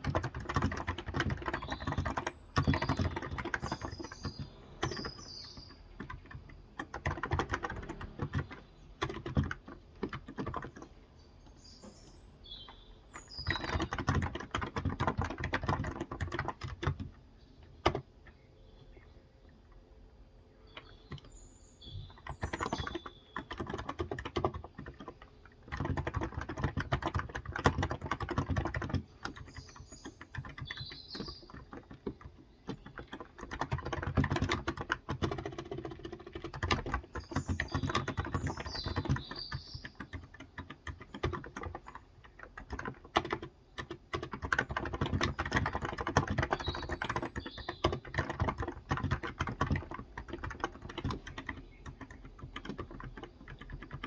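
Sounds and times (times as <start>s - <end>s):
keyboard typing: 0.0s - 19.9s, 20.6s - 54.0s
birds chirping: 0.0s - 54.0s.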